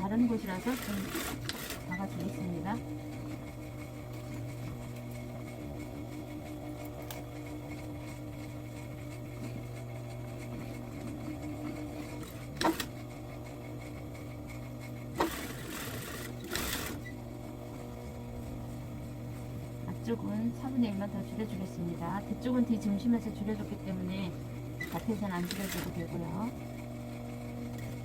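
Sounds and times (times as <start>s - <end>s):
sewing machine running: 0.0s - 18.2s, 19.8s - 28.0s.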